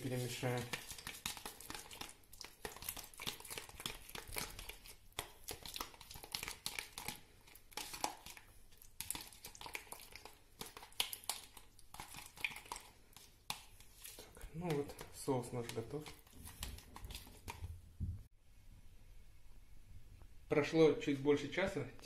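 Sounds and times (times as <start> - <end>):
plastic tub crinkling: 0.0 - 17.8
spoon scraping plastic tub: 0.0 - 17.8.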